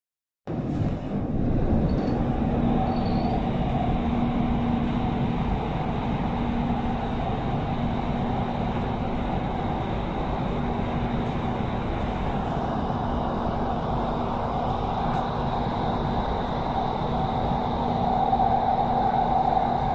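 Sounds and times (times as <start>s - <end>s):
metro train rumbling: 0.5s - 19.9s.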